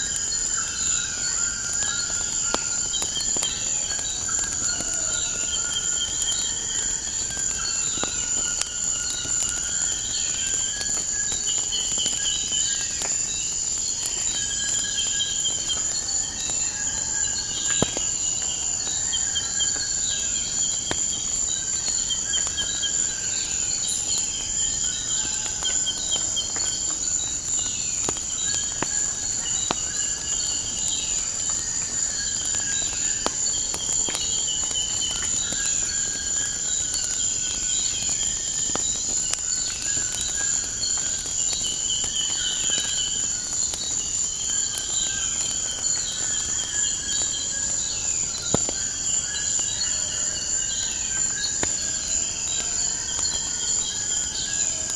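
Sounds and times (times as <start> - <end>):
crickets chorus: 0.0 - 54.9
wood fire crackling: 0.0 - 54.9.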